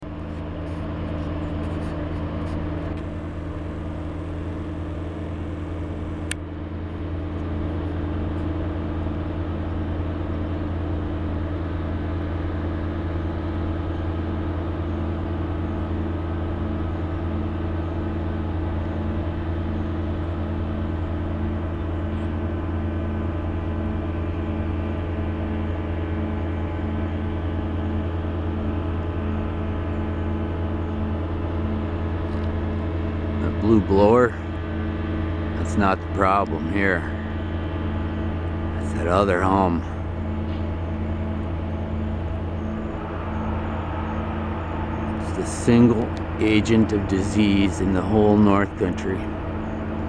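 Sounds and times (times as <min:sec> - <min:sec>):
heavy machinery drone: 0:00.0 - 0:50.0.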